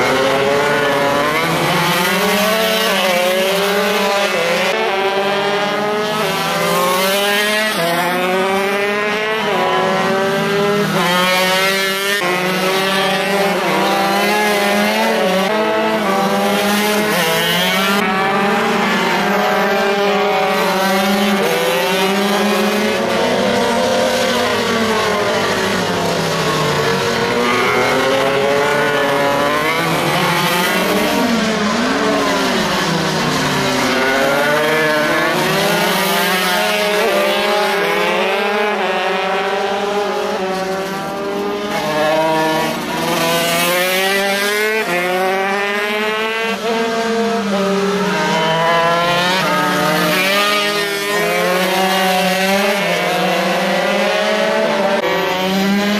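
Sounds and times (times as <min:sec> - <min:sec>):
minibike engines revving: 0:00.0 - 0:55.9.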